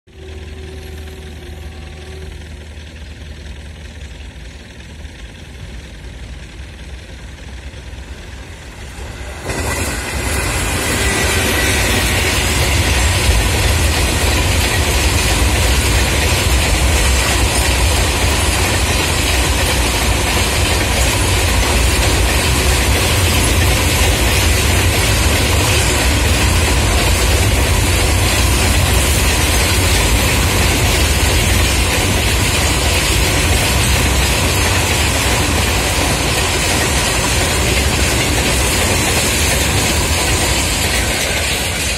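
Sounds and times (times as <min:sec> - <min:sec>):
freight train rumbling past: 0:00.1 - 0:41.9.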